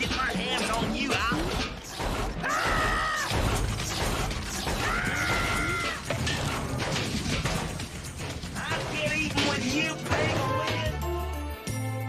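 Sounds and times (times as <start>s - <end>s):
mechanical clatter and rattling: 0.0s - 10.9s.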